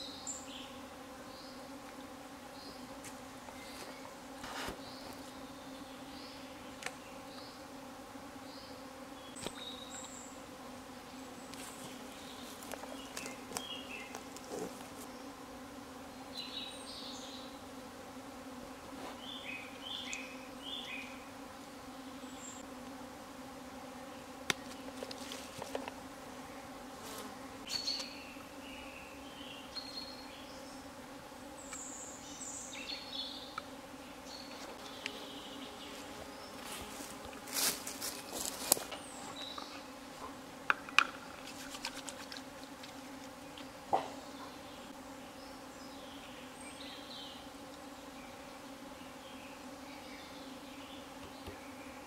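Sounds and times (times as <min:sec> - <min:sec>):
buzzing drone of insects: 0:00.0 - 0:52.0.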